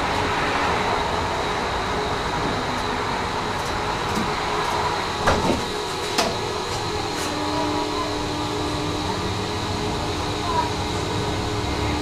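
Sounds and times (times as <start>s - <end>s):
tram running on track: 0.0s - 12.0s.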